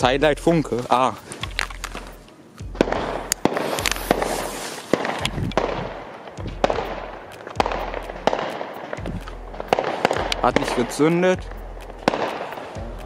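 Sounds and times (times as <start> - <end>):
crackling hiss: 0.0 - 13.0
firecrackers banging: 0.0 - 13.0.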